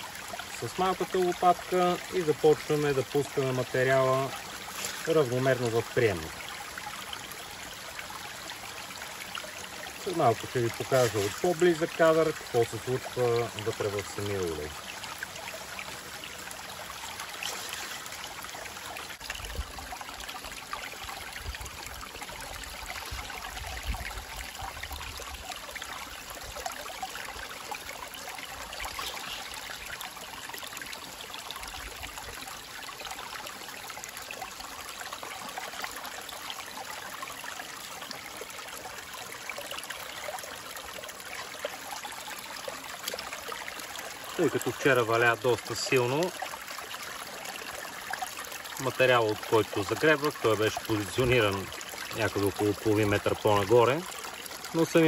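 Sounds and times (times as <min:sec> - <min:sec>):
stream water trickling over rocks: 0:00.0 - 0:55.0.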